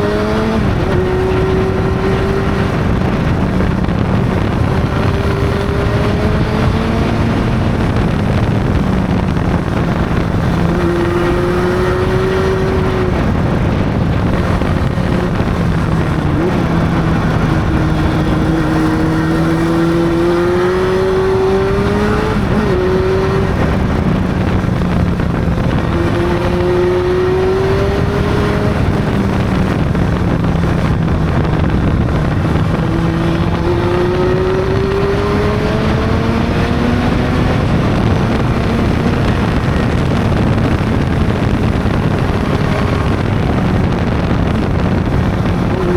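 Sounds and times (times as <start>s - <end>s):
motorcycle engine revving: 0.0s - 45.9s
steady rush of noise: 0.0s - 45.9s.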